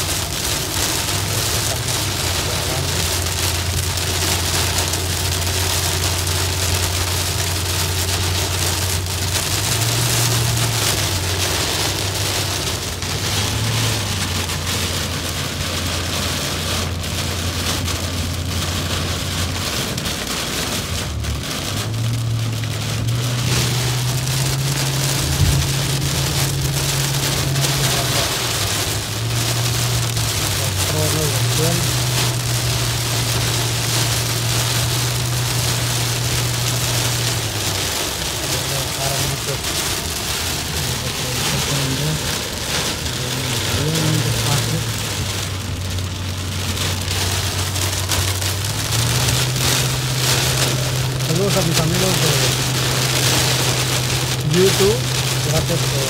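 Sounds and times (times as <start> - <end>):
engine and road drone: 0.0 - 56.0
heavy rain on car roof: 0.0 - 56.0.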